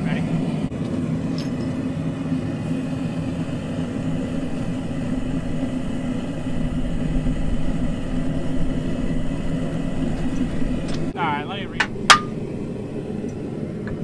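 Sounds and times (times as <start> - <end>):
forge burner rumbling hiss: 0.0 - 14.0.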